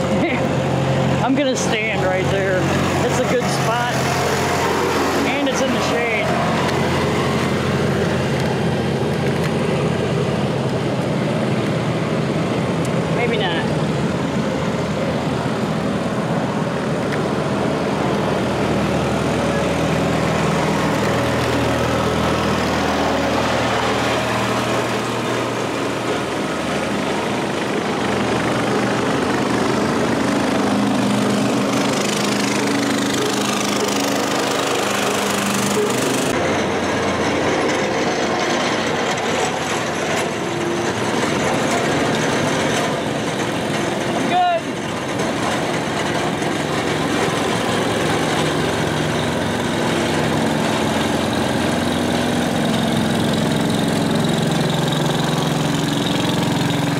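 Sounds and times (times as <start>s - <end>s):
garden tractor engines driving past: 0.0s - 56.9s.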